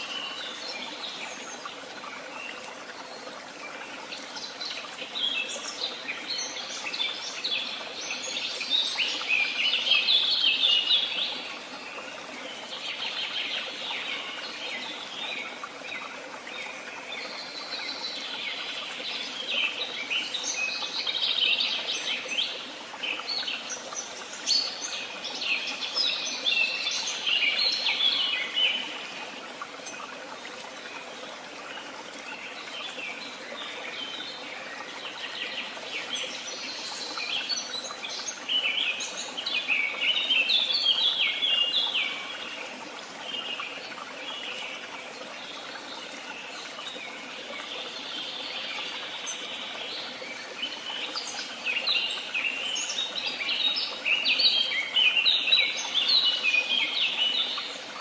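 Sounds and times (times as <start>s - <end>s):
songbirds twittering: 0.0s - 58.0s.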